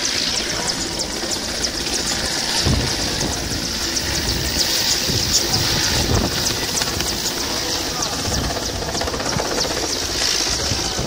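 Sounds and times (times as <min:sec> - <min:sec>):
helicopter turbine and rotor noise: 0:00.0 - 0:11.0.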